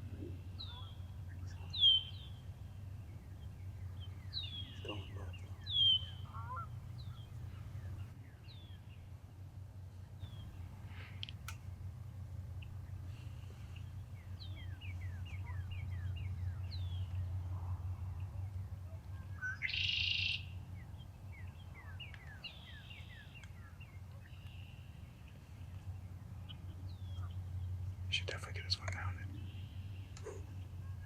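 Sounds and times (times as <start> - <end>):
songbirds chirping: 0.0 - 31.0
steady low hum: 0.0 - 31.0.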